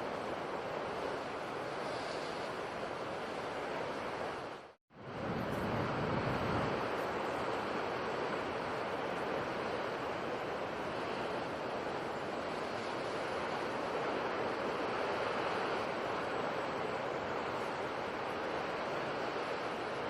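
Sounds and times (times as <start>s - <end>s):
sea surf breaking: 0.0s - 20.0s.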